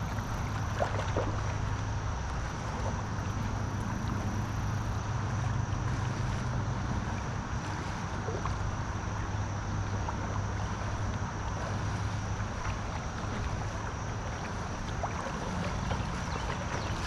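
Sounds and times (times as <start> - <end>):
river water rushing: 0.0 - 17.0
wind rumble on microphone: 0.0 - 17.0.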